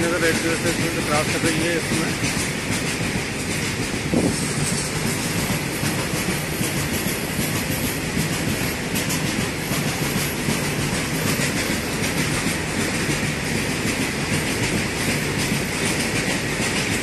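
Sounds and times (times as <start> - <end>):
freight train rumbling past: 0.0 - 17.0
wheels clattering on rails: 0.0 - 17.0.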